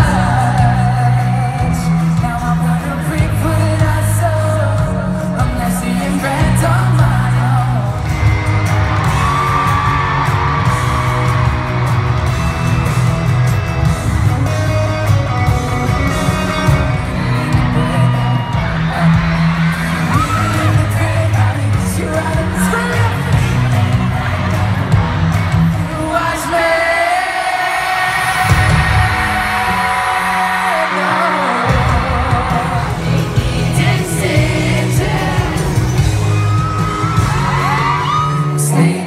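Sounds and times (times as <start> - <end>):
lead singer's voice: 0.0 - 12.0, 14.1 - 39.0
live rock band playing: 0.0 - 39.0
fans yelling and whooping: 6.4 - 39.0.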